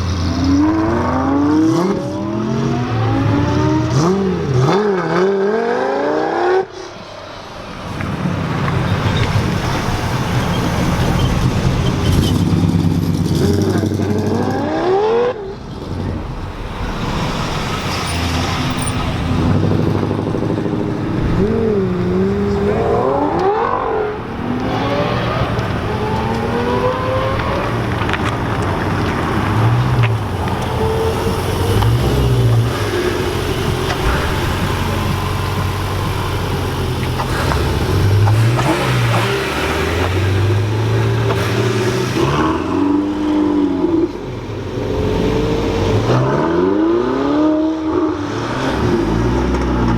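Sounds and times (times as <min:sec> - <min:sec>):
car engines revving: 0:00.0 - 0:49.9
traffic noise: 0:00.0 - 0:49.9.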